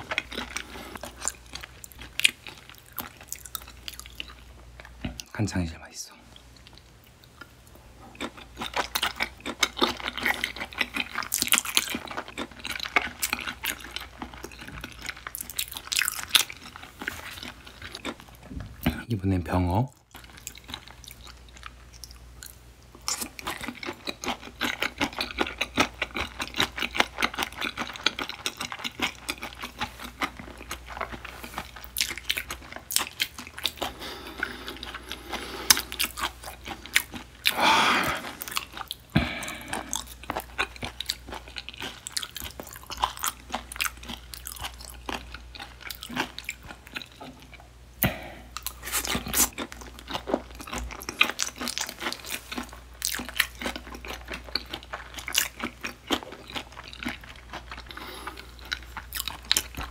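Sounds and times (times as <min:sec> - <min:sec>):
chewing with crunches: 0:00.0 - 0:05.4, 0:06.3 - 0:19.1, 0:19.9 - 0:59.9.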